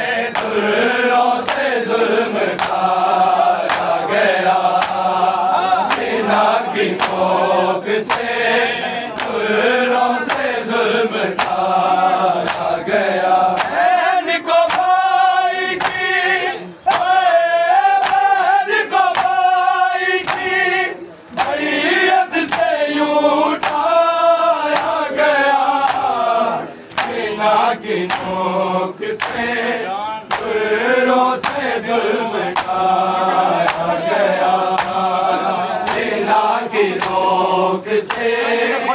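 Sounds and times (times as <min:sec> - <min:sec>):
chorus chanting lament: 0:00.0 - 0:38.9.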